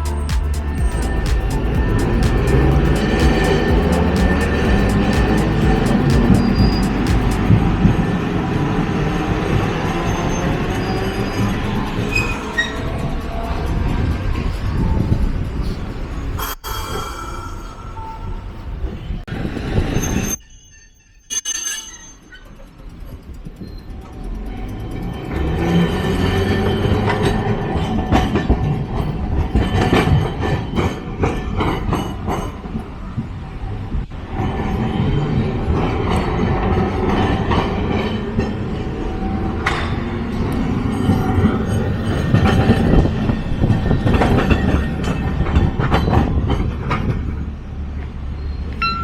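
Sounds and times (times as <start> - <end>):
streetcar running rumble: 0.0 - 16.4, 23.0 - 49.0.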